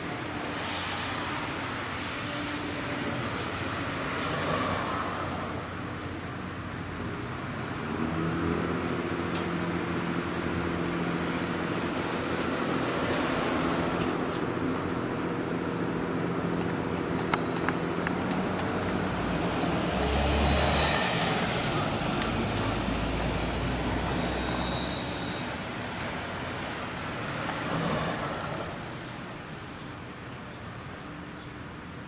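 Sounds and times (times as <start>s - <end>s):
road vehicles passing: 0.0s - 32.0s.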